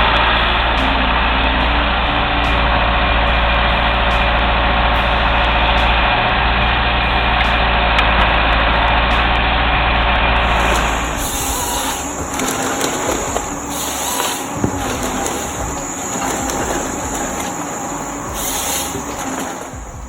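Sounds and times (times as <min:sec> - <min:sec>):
heavy engine droning: 0:00.0 - 0:20.0.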